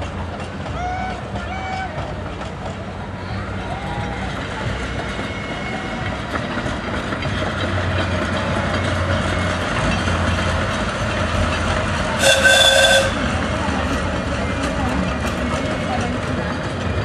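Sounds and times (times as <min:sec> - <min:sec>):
rail noise: 0:00.0 - 0:17.0
train engine drone: 0:00.0 - 0:17.0.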